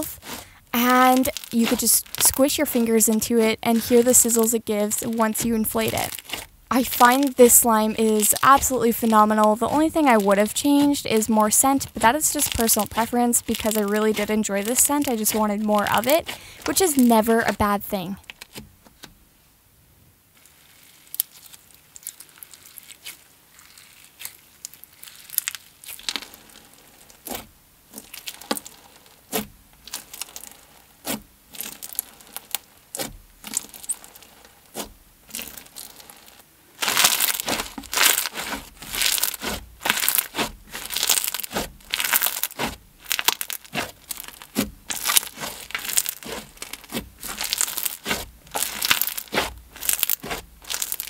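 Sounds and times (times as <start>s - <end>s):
crunchy slime crackling: 0.0s - 18.6s, 20.4s - 51.0s.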